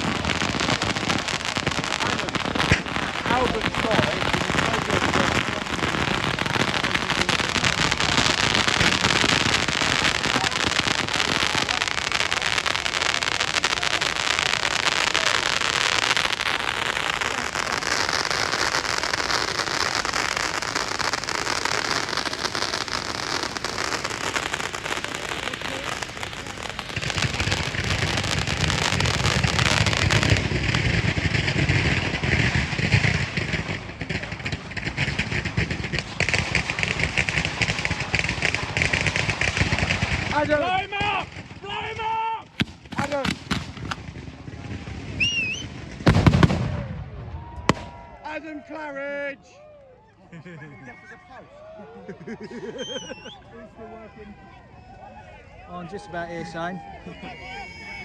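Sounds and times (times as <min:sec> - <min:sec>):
fireworks crackling: 0:00.0 - 0:49.4, 0:52.2 - 0:53.7, 0:55.8 - 0:58.0.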